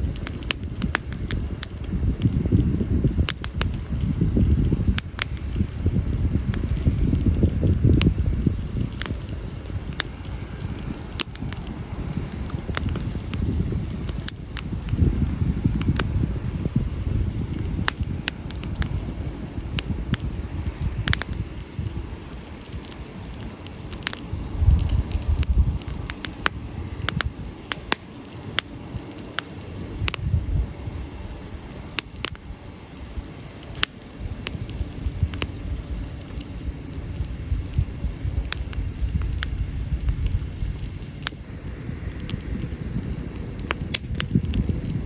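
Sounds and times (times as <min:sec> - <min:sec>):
campfire pops and crackles: 0:00.0 - 0:45.0
fire low rumble: 0:00.0 - 0:45.0.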